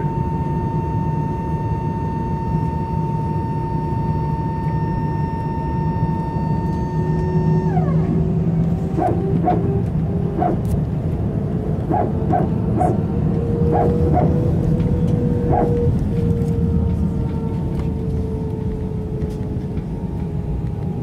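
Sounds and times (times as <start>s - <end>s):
jet engine whine: 0.0s - 21.0s
low cabin rumble: 0.0s - 21.0s.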